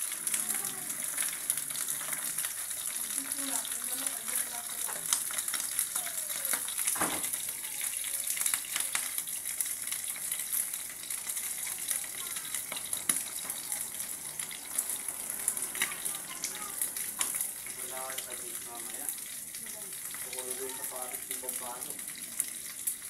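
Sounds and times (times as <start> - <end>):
fish frying in hot oil: 0.0 - 23.0
oil crackling and popping: 0.0 - 23.0.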